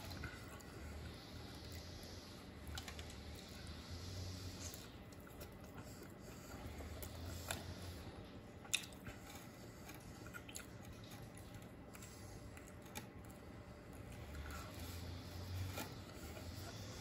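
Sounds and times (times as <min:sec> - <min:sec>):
faint chewing on food: 0:00.0 - 0:17.0.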